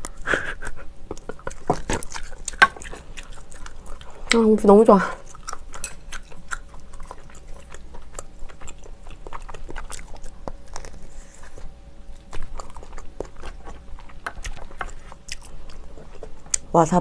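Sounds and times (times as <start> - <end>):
person chewing: 0.0 - 4.5, 5.2 - 16.7.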